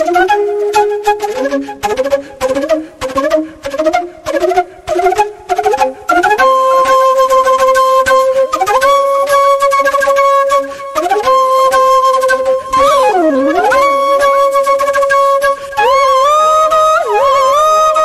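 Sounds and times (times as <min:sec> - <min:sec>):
solo flute melody: 0:00.0 - 0:18.0.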